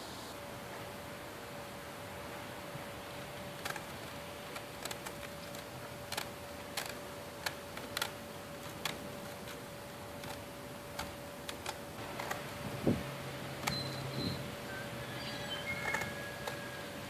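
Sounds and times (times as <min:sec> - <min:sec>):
faint constant hum: 0:00.0 - 0:17.0
steady hiss: 0:00.0 - 0:17.0.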